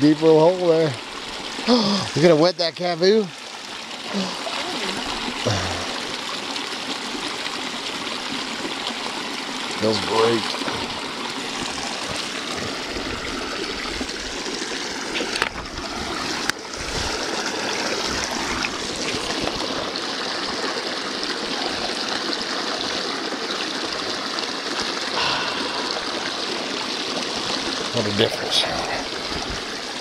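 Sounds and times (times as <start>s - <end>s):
creek water running: 0.0s - 30.0s.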